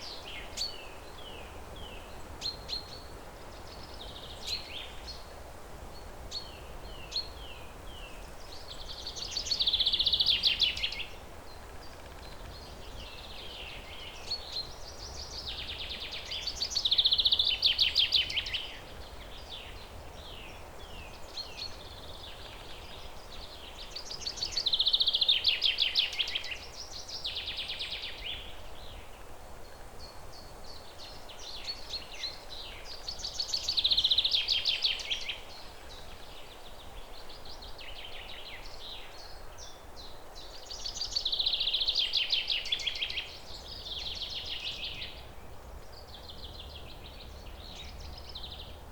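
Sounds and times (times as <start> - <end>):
songbird chirping and trilling: 0.0 - 5.4, 6.0 - 48.9
outdoor ambience hiss: 0.0 - 48.9.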